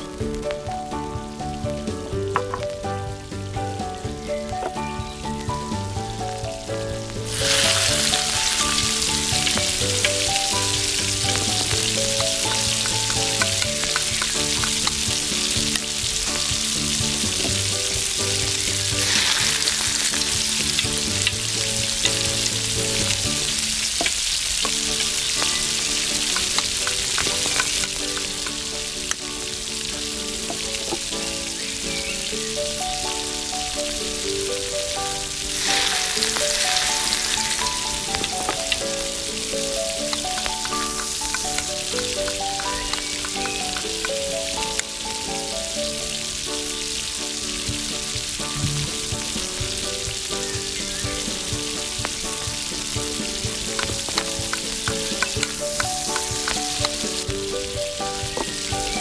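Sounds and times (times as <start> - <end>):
oil sizzling in a wok: 0.0 - 59.0.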